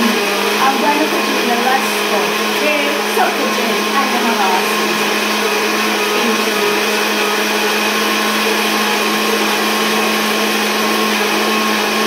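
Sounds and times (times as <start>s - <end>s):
electric blender humming: 0.0s - 12.0s.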